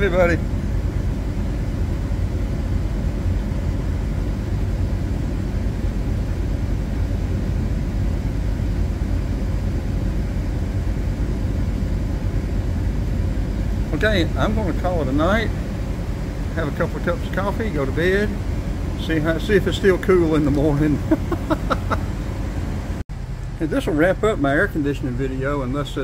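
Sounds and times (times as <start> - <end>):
air conditioning running: 0.0 - 26.0
van engine idling: 0.0 - 26.0.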